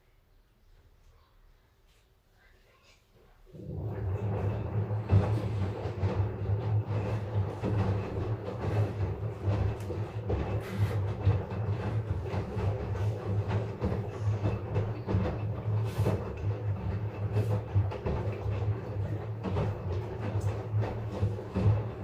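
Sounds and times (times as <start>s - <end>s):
washing machine motor and drum hum: 3.3s - 22.0s
washing machine knocks and rattles: 3.6s - 22.0s.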